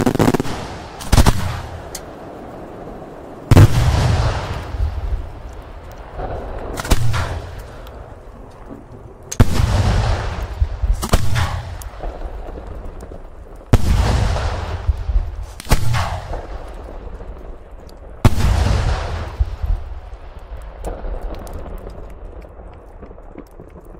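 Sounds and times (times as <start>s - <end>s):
firework booms with rumbling echo: 0.0s - 23.9s.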